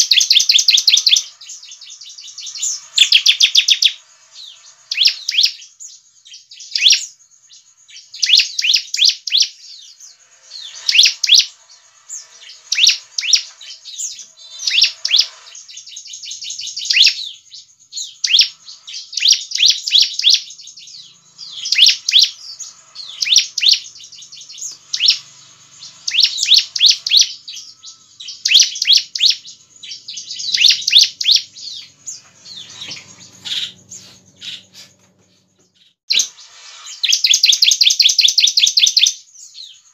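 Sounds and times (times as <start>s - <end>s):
bird rapid high chirping: 0.0s - 39.9s.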